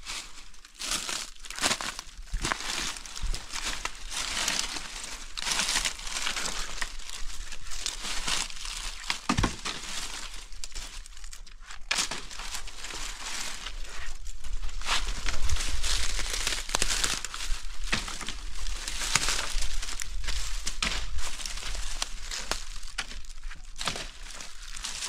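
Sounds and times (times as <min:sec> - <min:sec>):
rustling and crinkling: 0:00.0 - 0:25.0.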